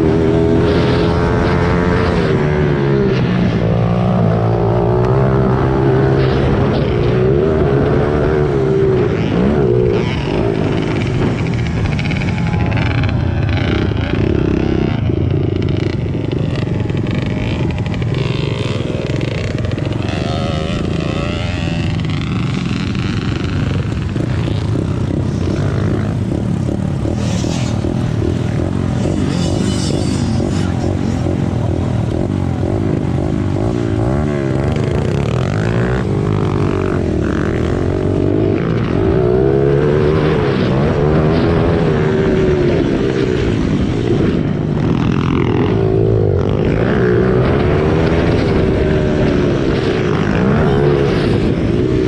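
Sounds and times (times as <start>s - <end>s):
pit bike engines revving: 0.0s - 52.0s.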